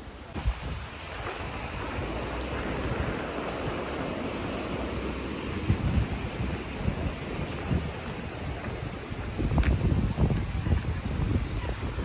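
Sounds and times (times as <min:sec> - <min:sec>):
mountain stream rushing: 0:00.0 - 0:12.0
wind rumbling on microphone: 0:00.0 - 0:12.0.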